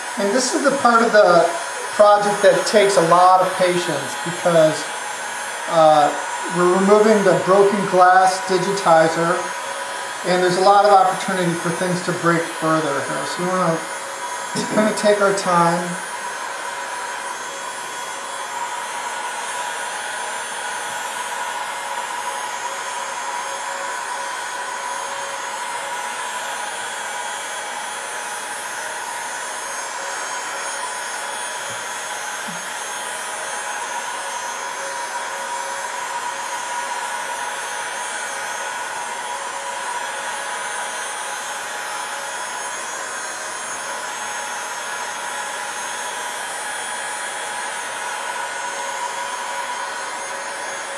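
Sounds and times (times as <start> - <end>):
heat gun blowing air: 0.0 - 50.9.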